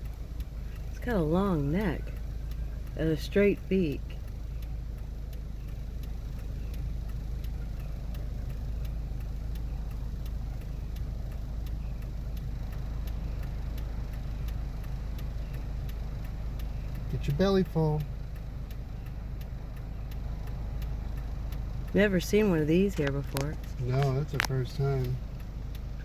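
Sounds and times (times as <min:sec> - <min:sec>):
faint regular ticking: 0:00.0 - 0:26.0
low outdoor rumble: 0:00.0 - 0:26.0.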